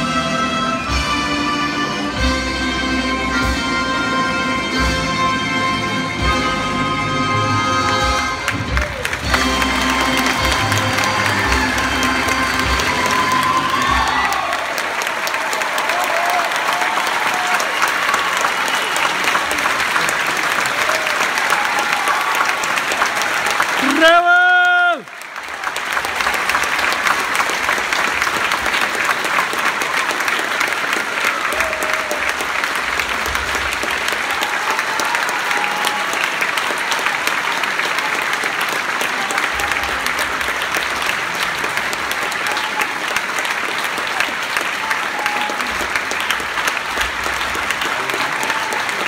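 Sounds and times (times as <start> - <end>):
audience applauding: 7.4 - 49.0.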